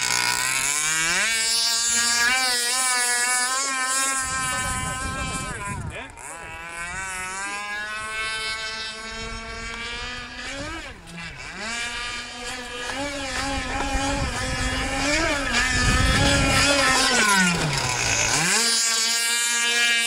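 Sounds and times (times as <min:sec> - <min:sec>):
model boat motor running: 0:00.0 - 0:20.0.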